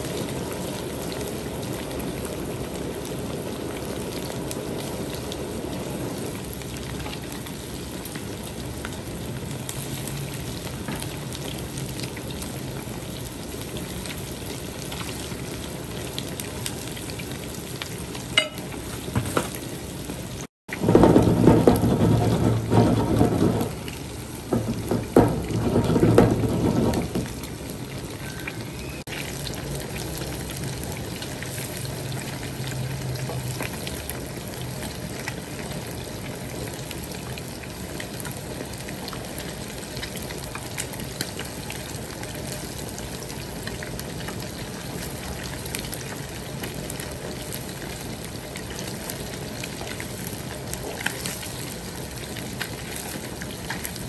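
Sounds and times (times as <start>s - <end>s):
fish deep-frying in oil: 0.0s - 54.0s.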